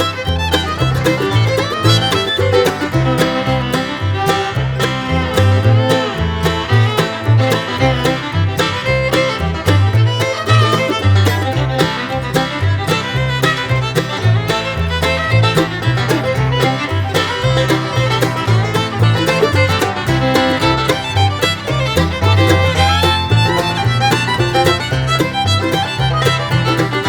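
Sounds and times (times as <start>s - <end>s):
bluegrass fiddle and banjo music: 0.0s - 27.0s.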